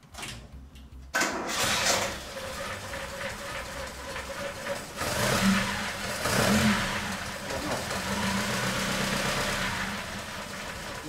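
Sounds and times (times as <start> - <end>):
car engine starting: 0.0 - 11.0
engine whine: 1.0 - 11.0.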